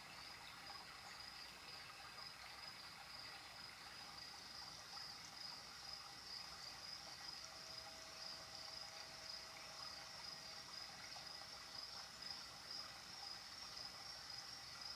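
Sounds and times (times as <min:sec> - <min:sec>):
crickets chirring: 0:00.0 - 0:14.9
water trickling: 0:00.0 - 0:14.9.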